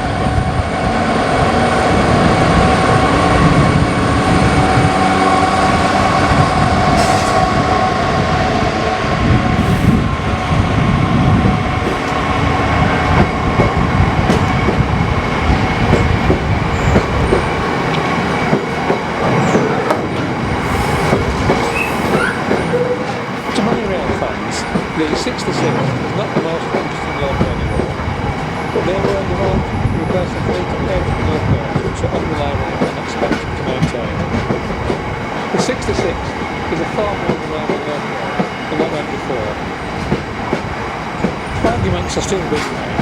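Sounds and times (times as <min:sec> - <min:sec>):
diesel locomotive engine whining: 0:00.0 - 0:43.0.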